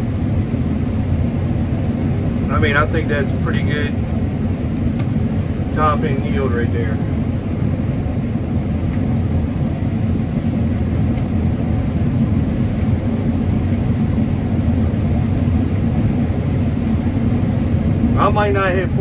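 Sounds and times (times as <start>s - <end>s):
combine harvester rumbling: 0.0s - 19.0s.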